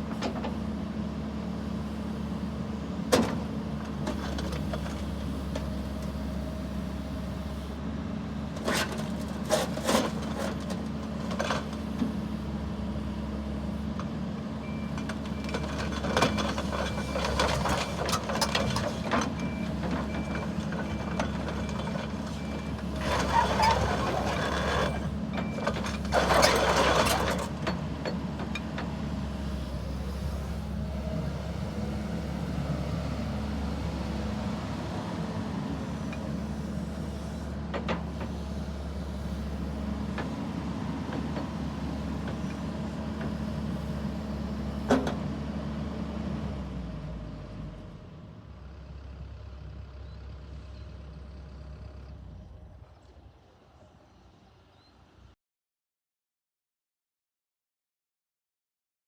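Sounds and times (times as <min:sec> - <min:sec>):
excavator diesel engine running: 0:00.0 - 0:54.2.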